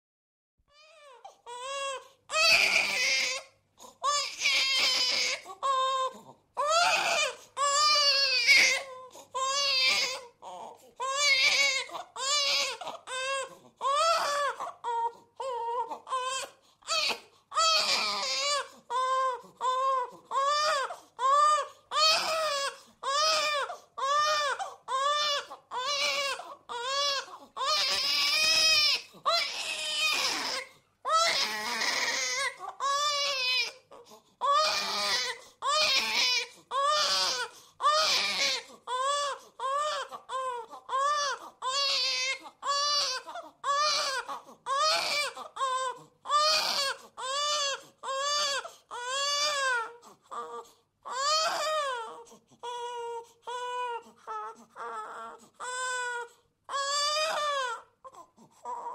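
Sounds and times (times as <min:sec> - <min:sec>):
baby crying: 0:00.7 - 0:58.9.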